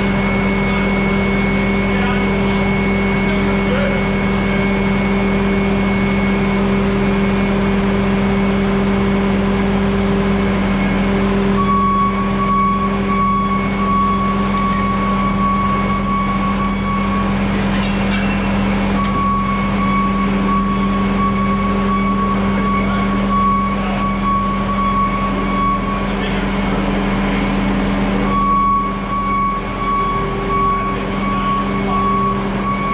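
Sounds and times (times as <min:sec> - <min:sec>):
diesel engine running: 0:00.0 - 0:32.9
high whine: 0:00.0 - 0:32.9.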